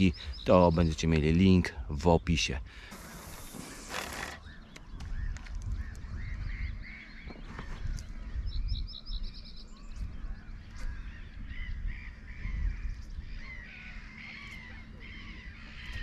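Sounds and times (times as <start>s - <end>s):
wild birds calling: 0.0s - 16.0s.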